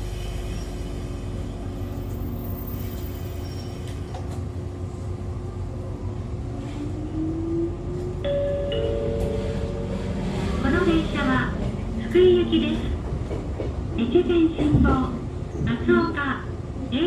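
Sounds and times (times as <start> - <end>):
railcar interior rumble and hum: 0.0 - 17.0.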